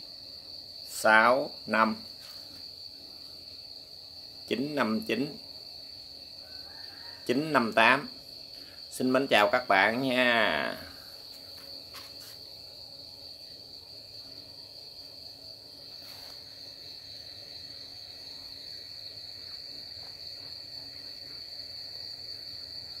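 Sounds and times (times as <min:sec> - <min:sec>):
cricket trilling: 0:00.0 - 0:23.0.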